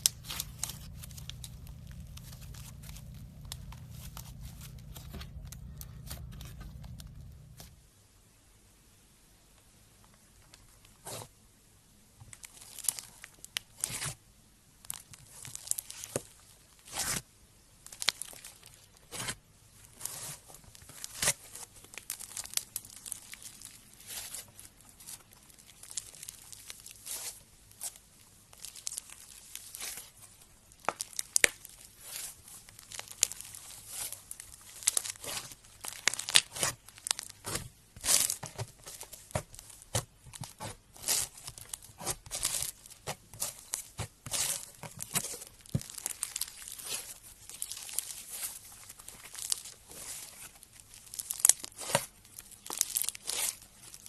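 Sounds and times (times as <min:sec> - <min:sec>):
slime squelching and crackling: 0:00.0 - 0:07.8, 0:12.3 - 0:14.2, 0:14.8 - 0:17.2, 0:17.8 - 0:54.0.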